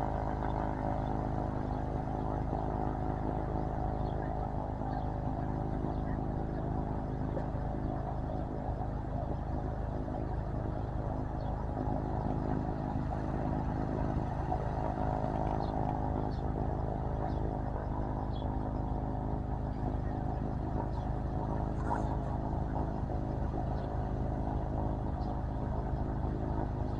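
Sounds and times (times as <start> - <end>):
light airplane engine idling: 0.0 - 26.9.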